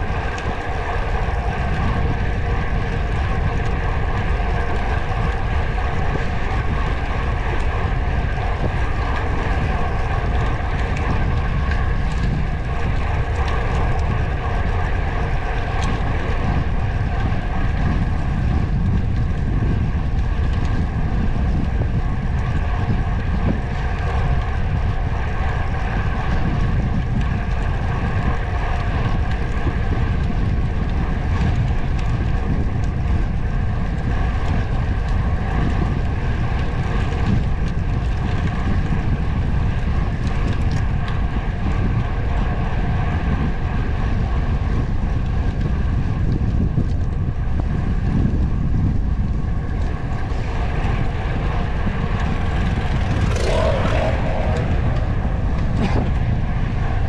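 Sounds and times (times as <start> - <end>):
vehicle drone and rumble: 0.0 - 57.0
wind rushing over microphone: 0.0 - 57.0.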